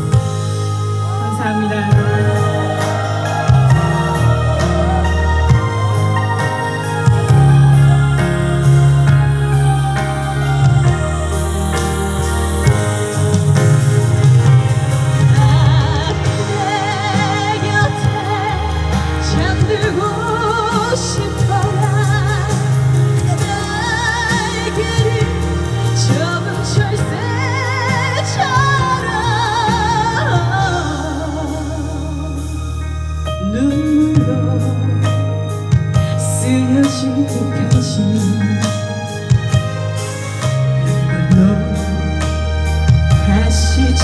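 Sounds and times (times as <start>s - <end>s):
held keyboard chords: 0.0s - 44.0s
lead melody with vibrato: 0.0s - 44.0s
steady bass: 0.0s - 44.0s.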